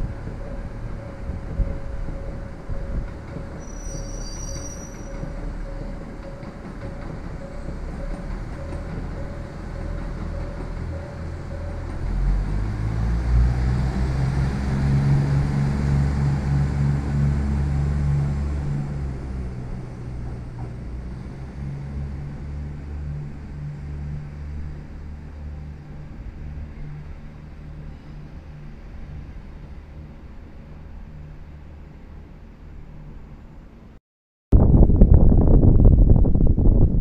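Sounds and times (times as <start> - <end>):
train rumbling on tracks: 0.0 - 33.9.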